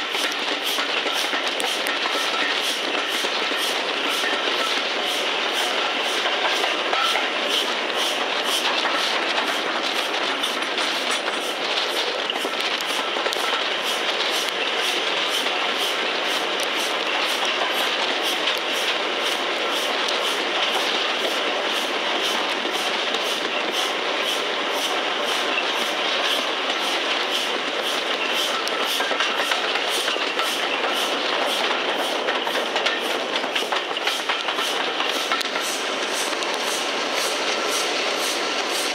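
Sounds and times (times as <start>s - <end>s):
train running and wind noise: 0.0s - 38.9s.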